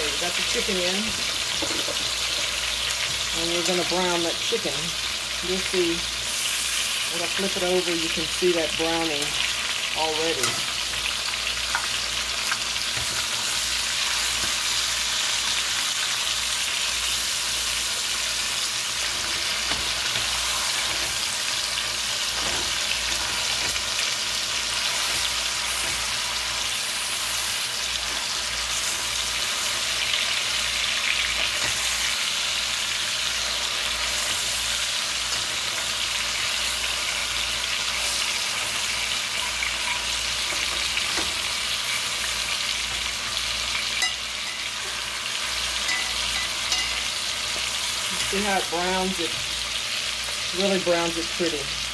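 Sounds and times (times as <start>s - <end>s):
chicken sizzling in hot fat: 0.0s - 51.9s.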